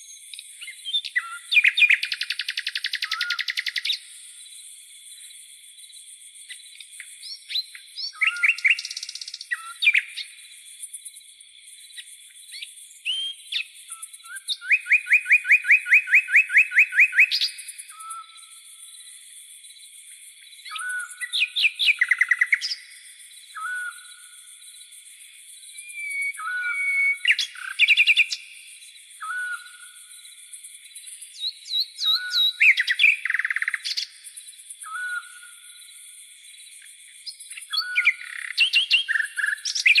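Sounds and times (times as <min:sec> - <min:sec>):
forest birds calling: 0:00.0 - 0:40.0
high insect hiss: 0:00.0 - 0:40.0.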